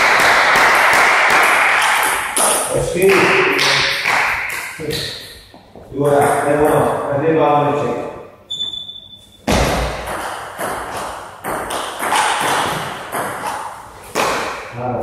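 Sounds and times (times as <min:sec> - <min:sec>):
knocks echoing in a hall: 0:00.0 - 0:07.4, 0:09.4 - 0:15.0.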